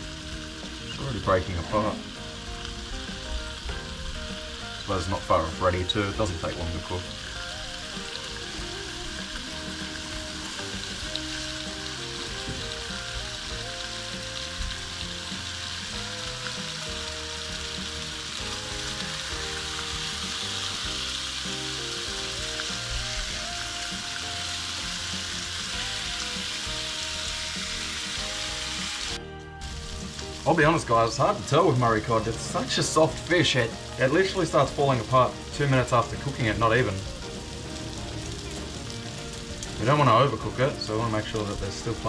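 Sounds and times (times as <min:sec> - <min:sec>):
fish sizzling in oil: 0:00.0 - 0:42.0
quiet music: 0:00.0 - 0:42.0.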